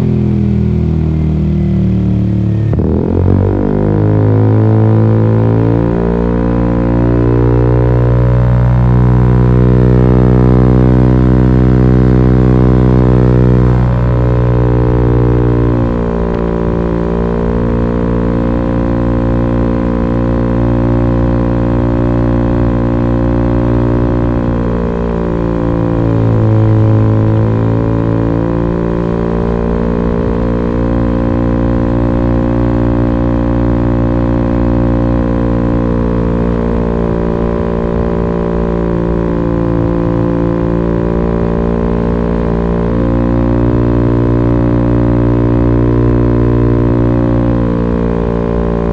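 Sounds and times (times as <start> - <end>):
two-stroke engine droning: 0.0 - 48.9.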